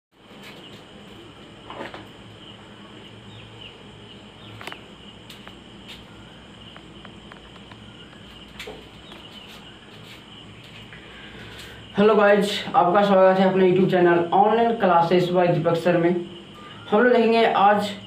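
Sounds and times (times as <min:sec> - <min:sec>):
high-pitched insect chirring: 0:02.2 - 0:18.0.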